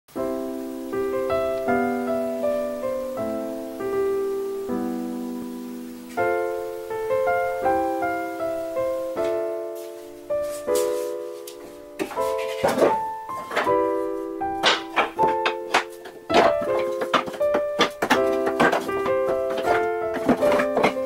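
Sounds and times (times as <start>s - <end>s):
gentle piano chords: 0.1s - 21.0s.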